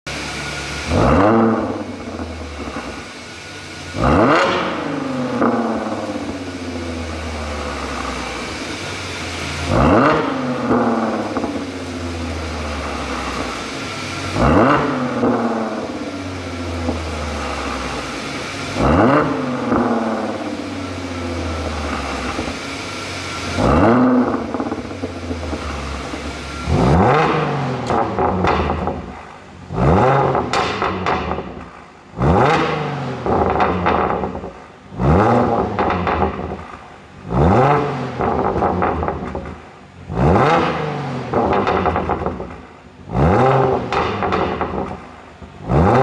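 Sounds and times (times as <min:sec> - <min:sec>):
car engine revving: 0:00.1 - 0:46.0
exhaust pops and crackles: 0:07.1 - 0:22.8, 0:23.5 - 0:46.0.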